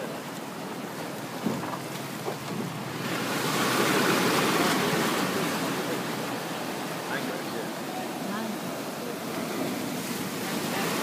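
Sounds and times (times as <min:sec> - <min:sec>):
surf washing up a sandy beach: 0:00.0 - 0:11.0.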